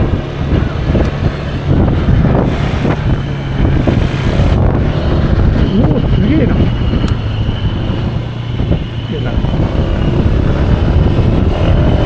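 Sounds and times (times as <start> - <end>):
scooter engine running: 0.0 - 12.0
wind rush on microphone: 0.0 - 12.0.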